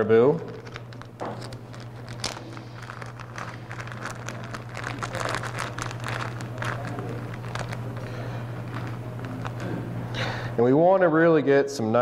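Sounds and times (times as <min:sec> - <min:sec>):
feathers and materials crinkling: 0:00.0 - 0:10.1
steady low hum: 0:00.0 - 0:12.0.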